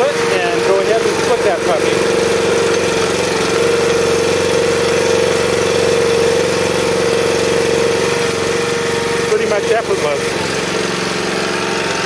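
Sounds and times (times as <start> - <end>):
log splitter engine humming: 0.0 - 12.0.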